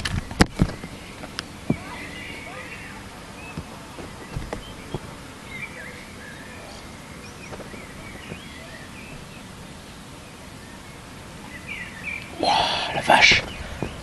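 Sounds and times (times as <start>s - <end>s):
birds chirping: 0.0s - 14.0s
outdoor background hiss: 0.0s - 14.0s.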